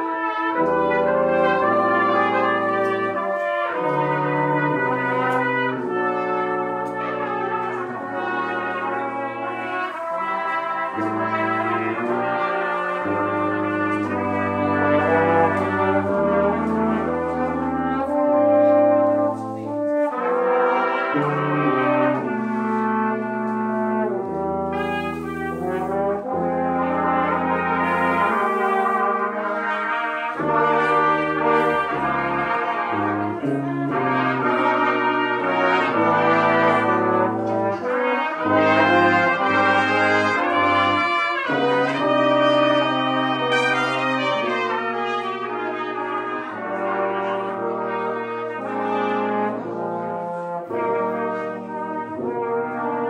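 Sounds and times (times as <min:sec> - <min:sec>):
brass quintet playing: 0:00.0 - 0:53.0.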